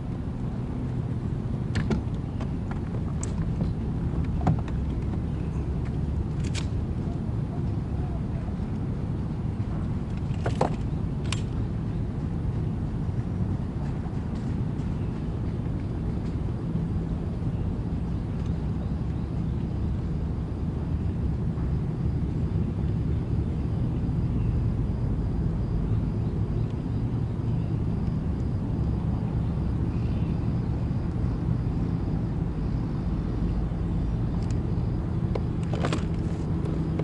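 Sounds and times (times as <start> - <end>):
low motor hum with rumble: 0.0 - 37.0.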